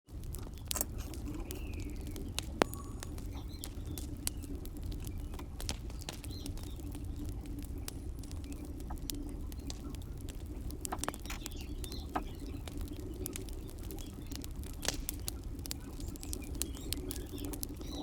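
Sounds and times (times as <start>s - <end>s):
soldering clicks and crackles: 0.1s - 18.0s.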